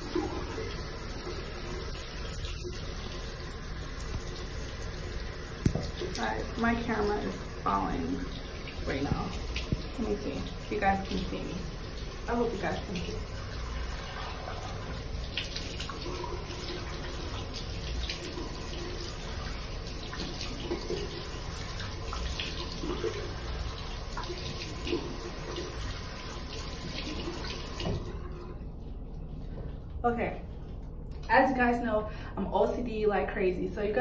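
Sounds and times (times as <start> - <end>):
sink tap running: 0.0 - 28.5.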